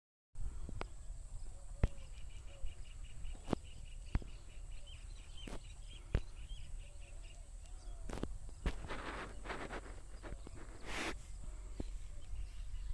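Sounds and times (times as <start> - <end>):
songbird chirping: 0.4 - 12.9.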